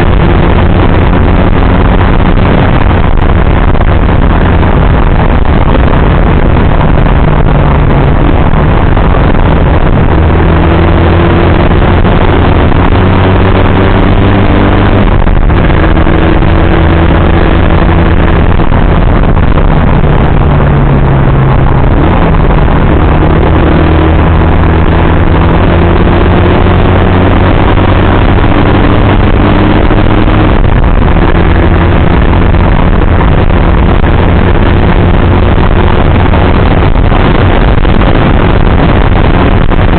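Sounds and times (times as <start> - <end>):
motorcycle engine changing gears: 0.0 - 20.9, 21.5 - 39.9
wind rush on microphone: 0.0 - 39.9.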